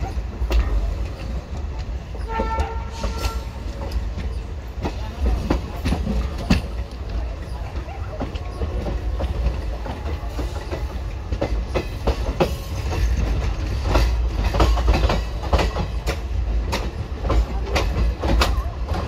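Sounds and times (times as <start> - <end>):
train coach rumble: 0.0 - 19.0
wheels clacking over rail joints: 0.0 - 19.0.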